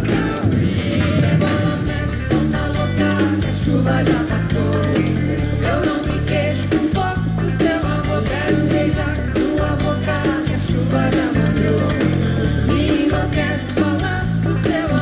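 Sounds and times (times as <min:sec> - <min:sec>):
lead vocal singing: 0:00.0 - 0:15.0
live pop band: 0:00.0 - 0:15.0
repeating bass beat: 0:00.0 - 0:15.0.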